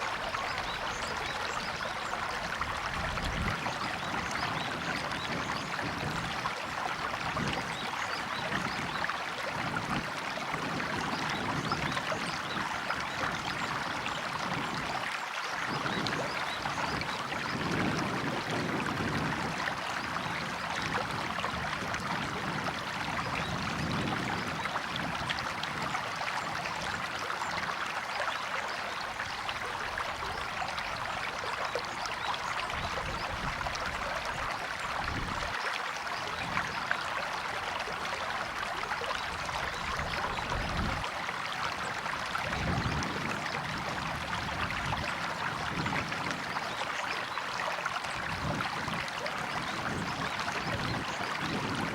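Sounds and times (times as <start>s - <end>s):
river water babbling: 0.0s - 51.9s.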